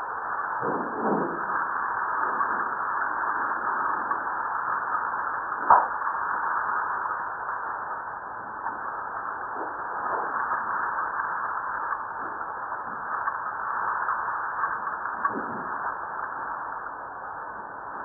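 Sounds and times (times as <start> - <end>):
steady hiss of seismic tremor: 0.0 - 18.0.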